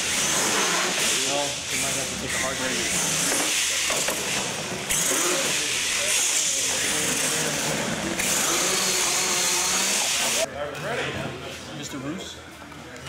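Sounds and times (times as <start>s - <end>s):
toy truck motors hissing: 0.0s - 10.5s.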